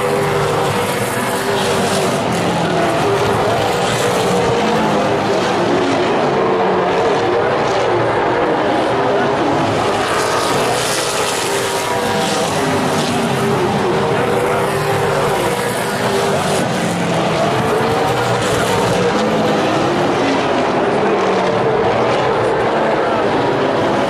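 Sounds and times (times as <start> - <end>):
race car engines at speed: 0.0 - 24.0.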